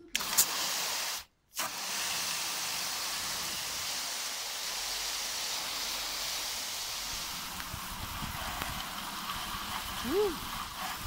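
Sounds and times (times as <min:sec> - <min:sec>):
water spray hitting car bodywork: 0:00.2 - 0:11.0.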